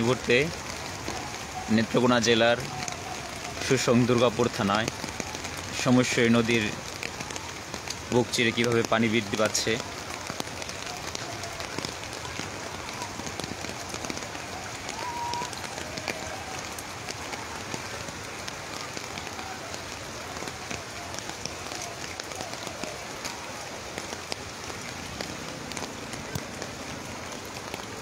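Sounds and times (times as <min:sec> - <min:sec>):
steady rain with drop taps: 0:00.0 - 0:28.0.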